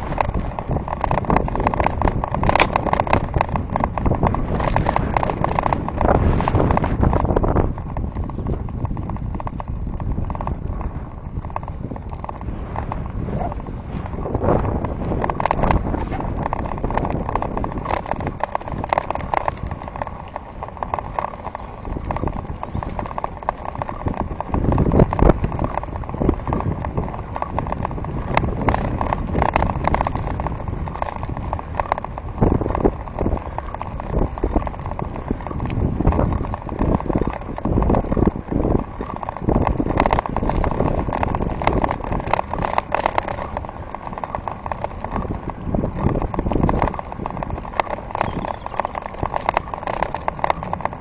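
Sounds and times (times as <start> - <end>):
bicycle rattling and clattering: 0.0 - 51.0
bicycle tyres rumbling on pavement: 0.0 - 51.0.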